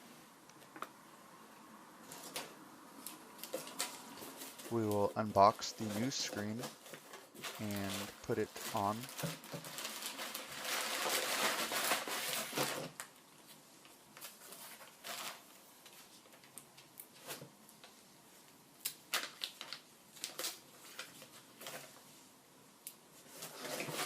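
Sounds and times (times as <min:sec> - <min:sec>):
packaging rustling and crinkling: 0:02.0 - 0:17.9, 0:18.9 - 0:22.2, 0:23.1 - 0:24.0.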